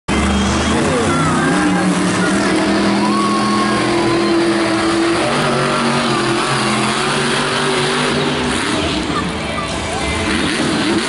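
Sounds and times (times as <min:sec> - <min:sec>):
crowd noise: 0:00.1 - 0:11.0
monster truck engine running: 0:00.1 - 0:11.0.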